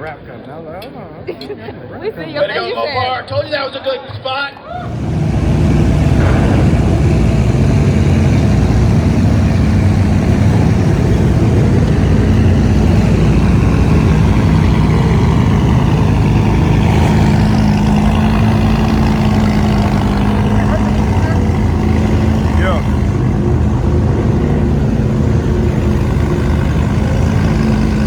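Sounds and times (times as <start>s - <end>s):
car engine running: 4.7s - 28.0s.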